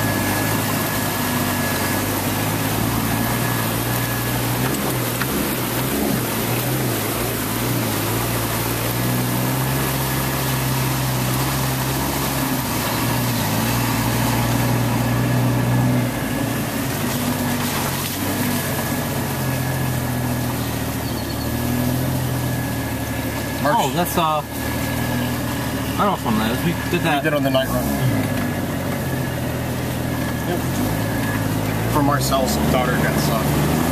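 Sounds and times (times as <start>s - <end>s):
car engine running: 0.0s - 33.9s
tyres splashing through water: 0.0s - 33.9s.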